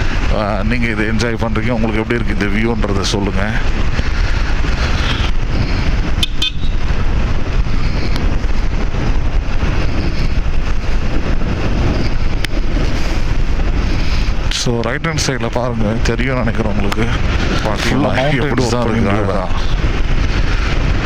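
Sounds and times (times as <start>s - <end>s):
wind rush on microphone: 0.0s - 21.0s.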